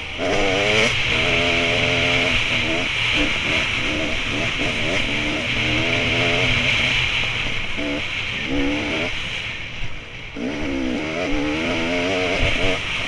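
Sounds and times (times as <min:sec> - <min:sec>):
dirt bike engine revving: 0:00.0 - 0:09.5, 0:10.3 - 0:13.0.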